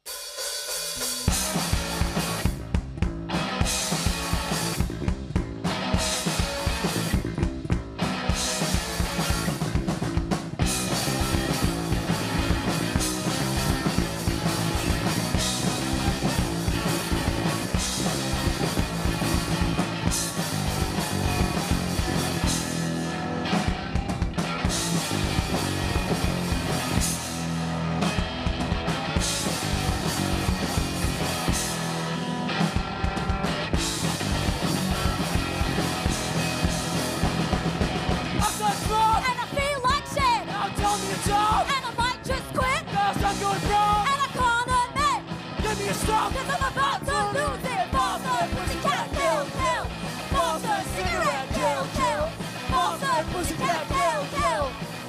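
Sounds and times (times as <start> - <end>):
drum kit beat: 0.0 - 55.0
bass guitar: 1.0 - 55.0
electric guitar: 1.0 - 55.0.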